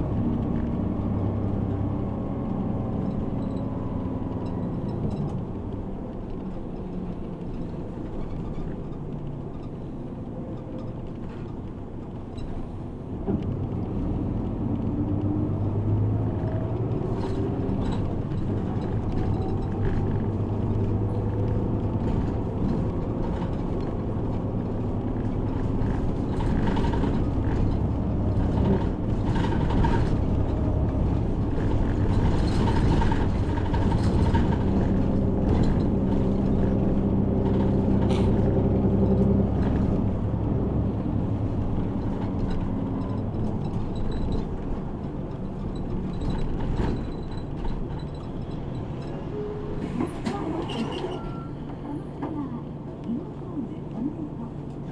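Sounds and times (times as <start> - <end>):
bus engine hum: 0.0 - 54.9
rattles and knocks from bus body: 1.8 - 14.1, 16.4 - 52.6.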